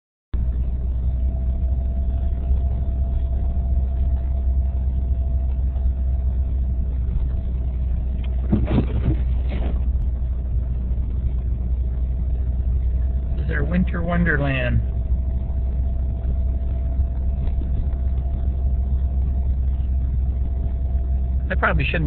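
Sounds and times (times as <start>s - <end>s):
car road noise rumble: 0.3s - 22.0s
faint steady whine: 0.4s - 22.0s.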